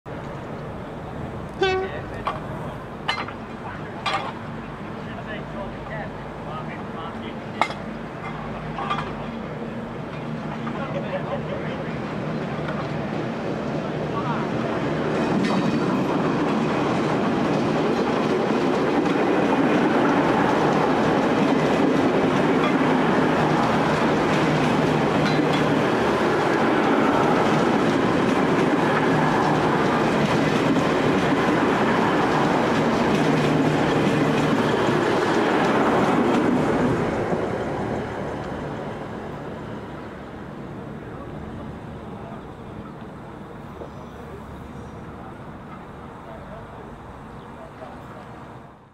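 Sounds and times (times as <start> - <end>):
diesel railcar engines: 0.1 - 48.9
train wheels on rails: 0.1 - 48.9.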